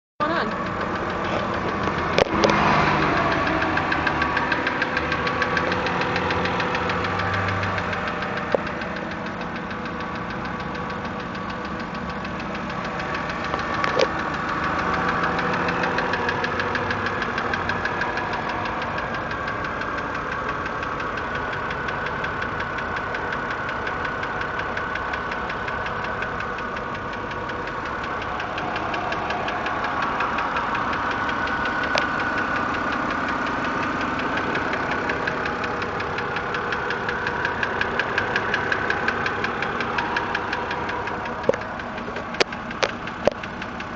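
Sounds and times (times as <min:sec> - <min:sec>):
car engine idling with knocking: 0:00.2 - 0:43.9.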